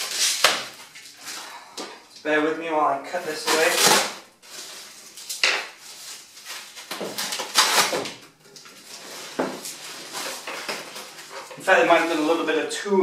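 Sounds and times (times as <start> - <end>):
packaging wrap rustling and crinkling: 0.0 - 1.6, 3.1 - 12.6.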